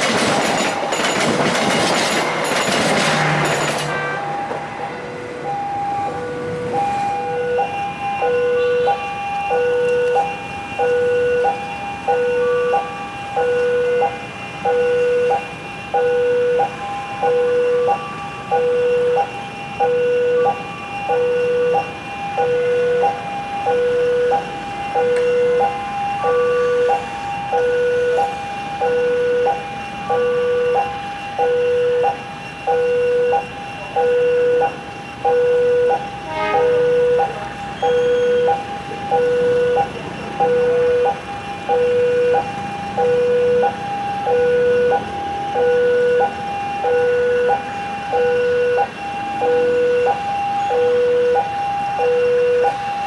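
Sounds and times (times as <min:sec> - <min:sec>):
level crossing two-tone alarm: 0:02.2 - 0:53.0.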